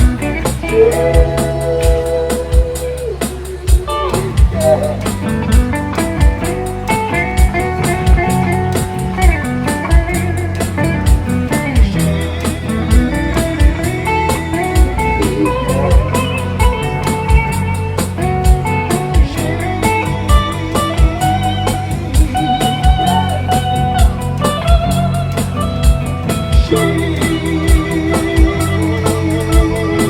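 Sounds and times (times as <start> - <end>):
guitar melody: 0.0 - 30.0
steady drum beat: 0.0 - 30.0.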